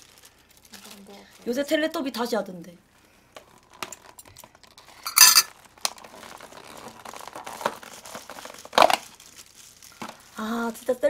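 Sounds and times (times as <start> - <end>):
plastic packaging crinkling: 0.0 - 1.8, 3.3 - 11.0.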